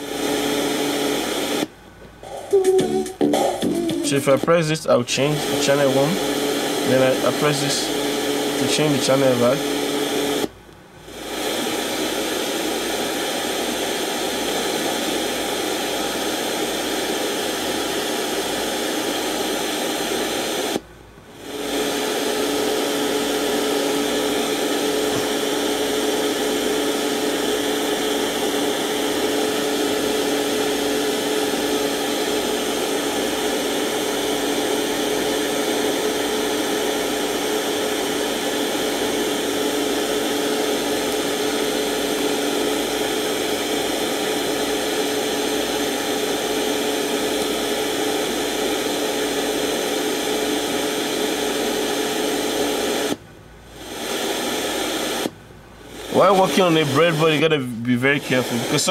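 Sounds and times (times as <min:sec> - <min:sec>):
radio static hiss: 0:00.0 - 0:20.8, 0:21.4 - 0:58.9.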